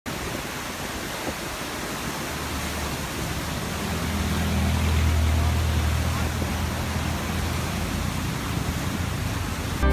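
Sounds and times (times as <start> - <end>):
floodwater rushing: 0.1 - 9.9.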